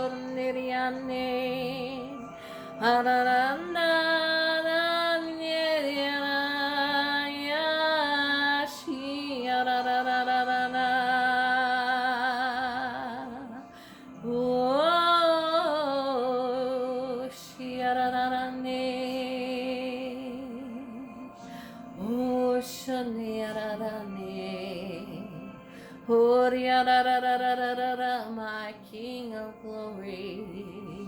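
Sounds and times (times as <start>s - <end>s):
woman singing wordless notes: 0.0s - 31.0s.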